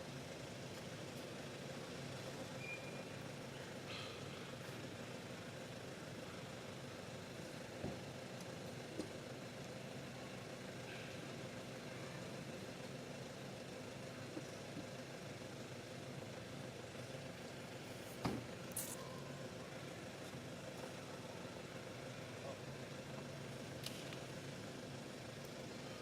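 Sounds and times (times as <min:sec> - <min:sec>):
engine idling hum: 0:00.0 - 0:26.0.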